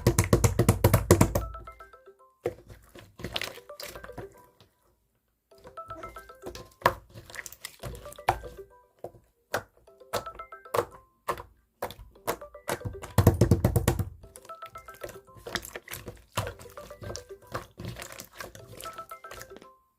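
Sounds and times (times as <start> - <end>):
soft background music: 0.0 - 19.9.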